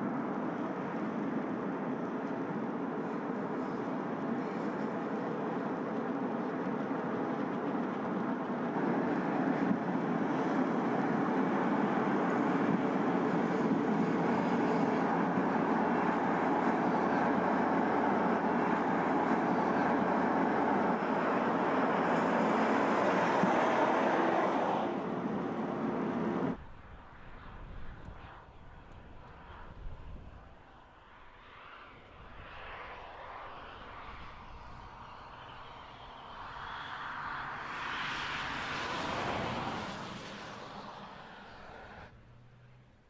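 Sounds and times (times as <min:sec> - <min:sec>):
car engine and tyre noise: 0:00.0 - 0:26.6, 0:31.4 - 0:43.0.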